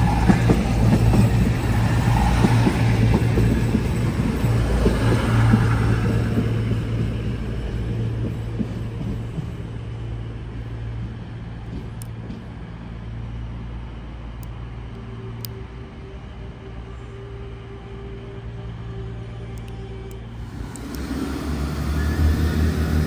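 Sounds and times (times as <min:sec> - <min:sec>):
train diesel engines droning: 0:00.0 - 0:23.0.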